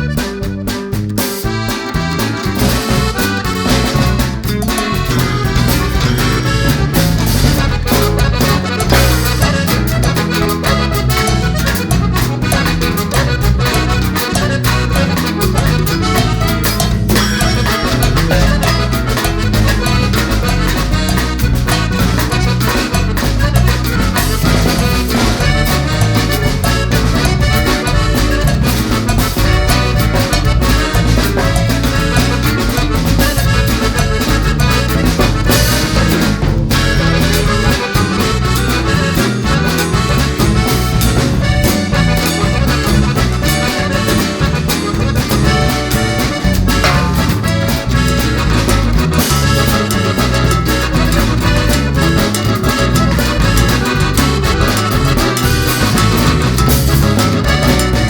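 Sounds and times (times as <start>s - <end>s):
upbeat latin music with accordion: 0.0s - 58.0s.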